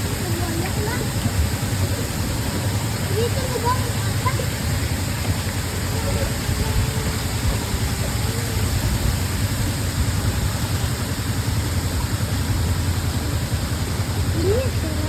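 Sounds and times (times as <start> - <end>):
heavy low rumble: 0.0 - 15.0
steady rushing noise: 0.0 - 15.0.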